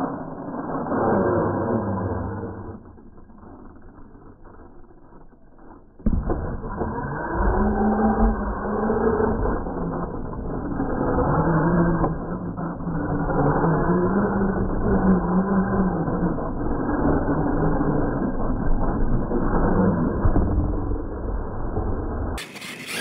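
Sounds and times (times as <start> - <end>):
toy truck drivetrain whine: 0.0 - 23.0.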